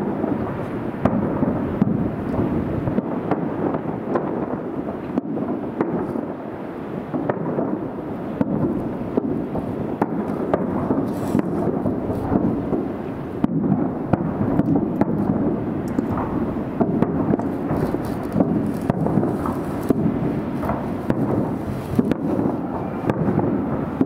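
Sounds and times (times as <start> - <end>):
fireworks booming: 0.0 - 24.0
fireworks cracks: 0.0 - 24.0.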